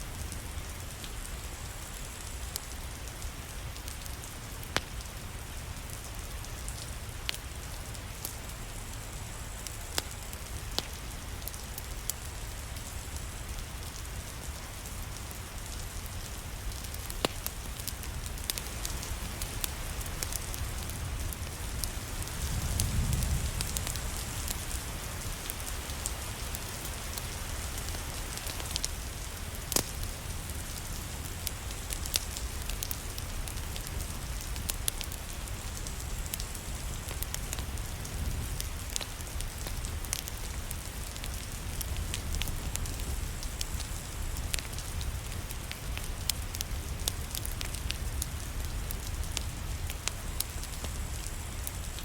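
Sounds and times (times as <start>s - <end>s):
steady rain falling: 0.0s - 52.0s
wood fire crackling: 0.1s - 52.0s.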